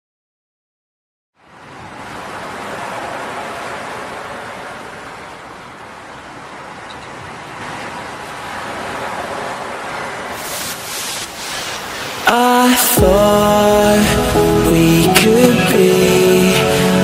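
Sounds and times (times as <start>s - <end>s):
ocean waves washing in: 1.4s - 17.0s.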